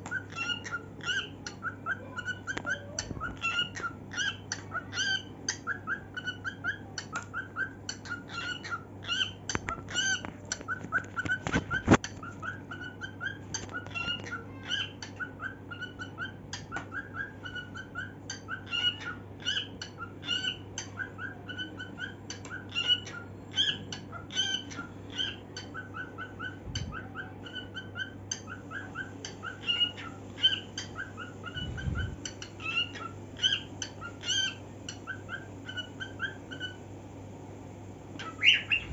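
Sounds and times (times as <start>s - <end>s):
cockatiel chirping and whistling: 0.0s - 36.8s, 38.2s - 38.9s
steady low hum: 0.0s - 38.9s.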